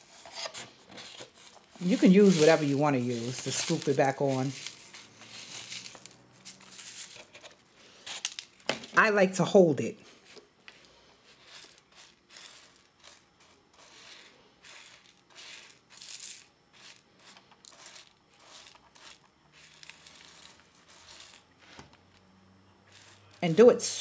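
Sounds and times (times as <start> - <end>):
rhinestones rustling: 1.0 - 9.1, 10.0 - 24.0.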